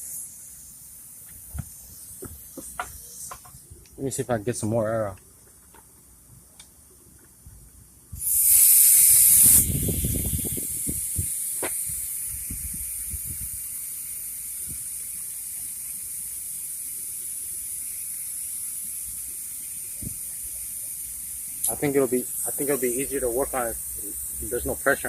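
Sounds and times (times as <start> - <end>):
air hissing out of a tire: 0.0 - 3.8, 8.1 - 25.0.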